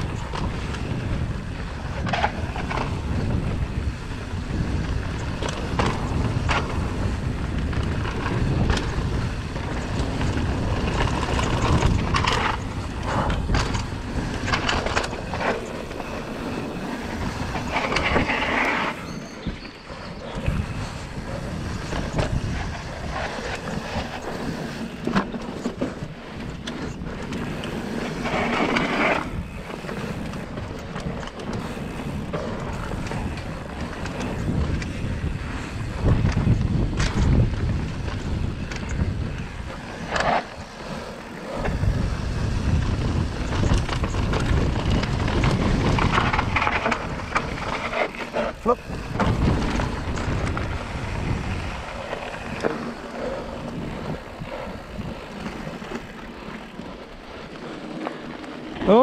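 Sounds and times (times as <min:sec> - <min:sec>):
bike rattling: 0:00.0 - 0:59.0
tyres rolling on dirt: 0:00.0 - 0:59.0
wheels knocking on bumps: 0:00.0 - 0:59.0
wind buffeting microphone: 0:00.0 - 0:59.0.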